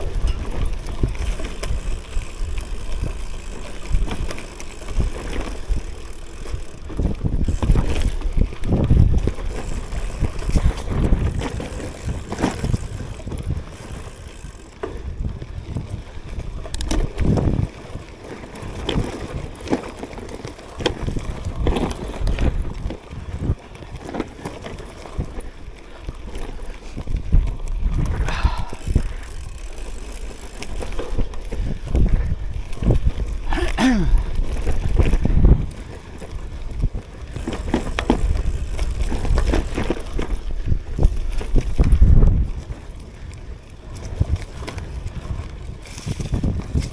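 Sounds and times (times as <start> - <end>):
bike knocks and rattles: 0.0 - 43.3
bike tyre rumble on dirt: 0.0 - 46.9
wind buffeting microphone: 0.0 - 46.9.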